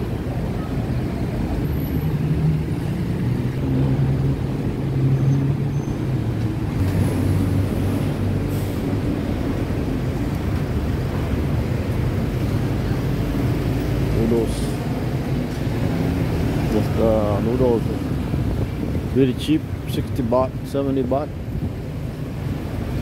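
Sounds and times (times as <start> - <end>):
passing vehicle engines: 0.0 - 23.0.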